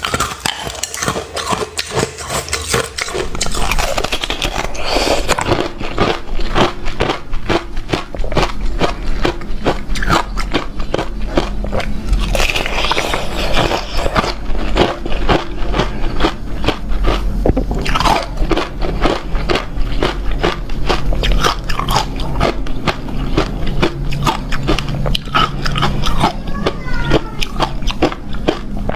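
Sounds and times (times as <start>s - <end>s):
person crunching ice: 0.0s - 26.3s.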